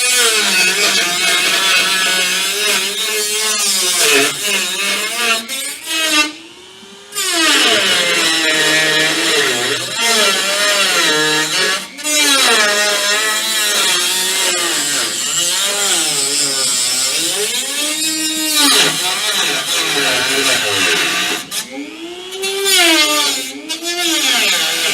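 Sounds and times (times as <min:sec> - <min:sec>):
rotary tool cutting sheet steel: 0:00.0 - 0:24.9.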